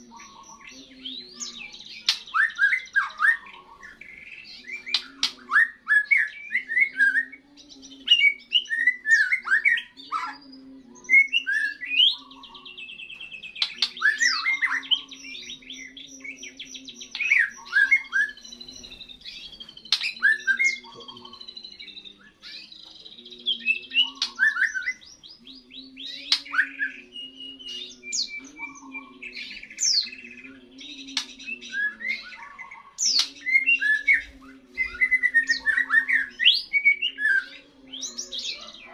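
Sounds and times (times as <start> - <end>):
bird singing whistled chirps: 0.0 - 38.9.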